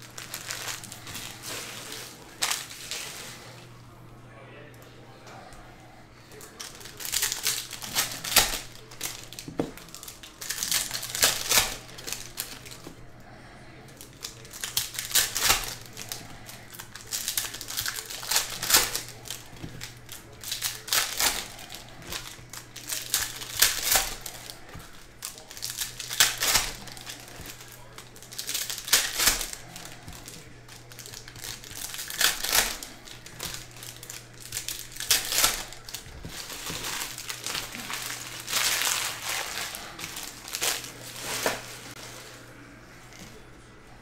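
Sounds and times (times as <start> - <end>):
foil wrappers tearing and crinkling: 0.0 - 3.5, 6.3 - 42.4
cards shuffling: 0.0 - 3.6, 6.4 - 13.0, 13.9 - 42.4
steady low hum: 0.0 - 44.0.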